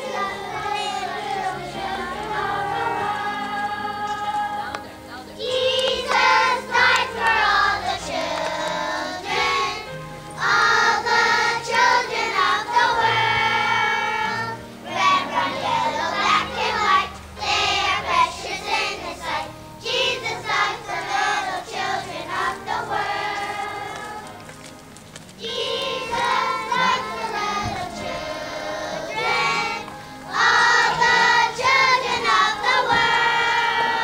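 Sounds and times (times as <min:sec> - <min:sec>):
young children singing: 0:00.0 - 0:24.6, 0:25.4 - 0:34.0.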